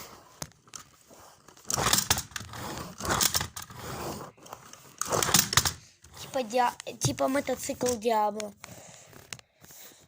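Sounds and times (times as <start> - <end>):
rustling and scraping handling noise: 0.0 - 10.0.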